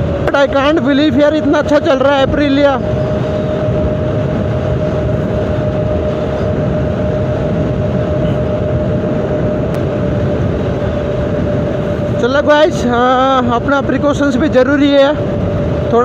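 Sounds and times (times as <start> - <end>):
steady whine: 0.0 - 16.0
wind rushing over microphone: 0.0 - 16.0.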